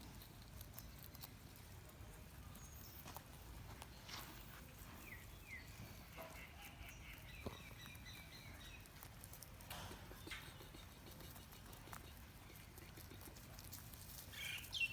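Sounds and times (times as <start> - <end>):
rabbits munching: 0.0 - 14.9
bird chirping: 0.7 - 9.1, 9.9 - 13.0, 14.3 - 14.9.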